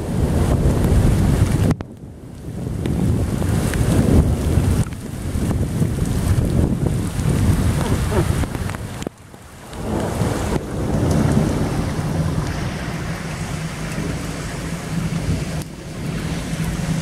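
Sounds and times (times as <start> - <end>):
thunder rumbling: 0.0 - 17.0
wind buffeting microphone: 0.0 - 17.0.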